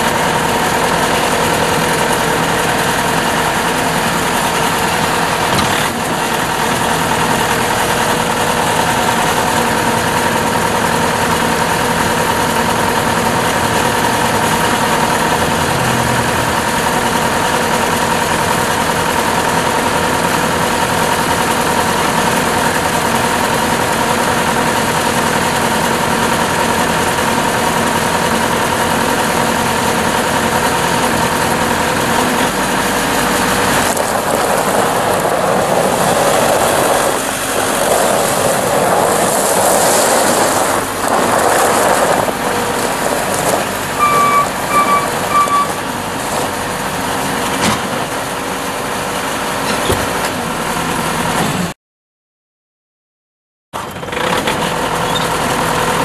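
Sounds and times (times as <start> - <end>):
diesel engine idling: 0.0 - 51.4.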